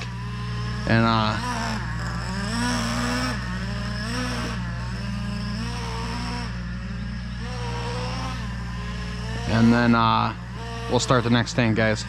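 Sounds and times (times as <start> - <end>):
nitro engine running: 0.0 - 12.0.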